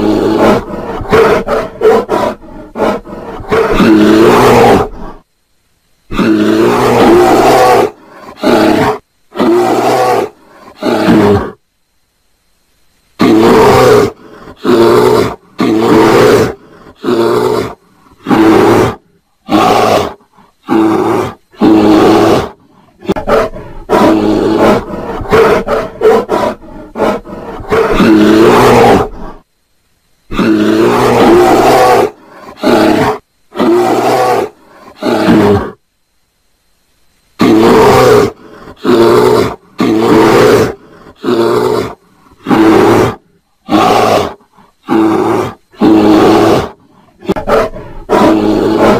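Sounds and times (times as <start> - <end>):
bear roaring: 0.0 - 5.2, 6.1 - 11.6, 13.2 - 29.4, 30.3 - 35.8, 37.4 - 48.9.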